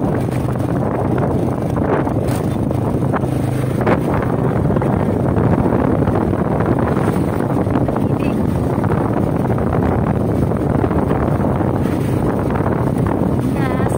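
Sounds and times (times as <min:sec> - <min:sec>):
vehicle engine running: 0:00.0 - 0:13.9
wind on microphone: 0:00.0 - 0:13.9.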